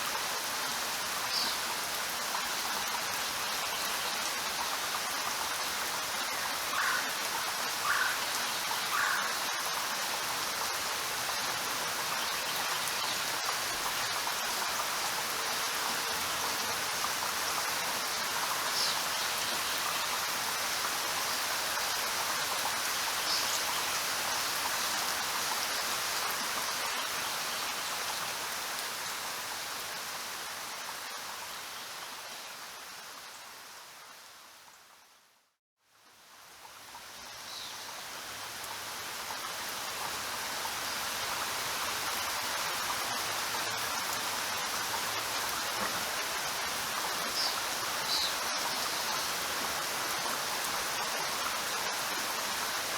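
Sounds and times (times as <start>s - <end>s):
steady rain hissing: 0.0s - 52.9s.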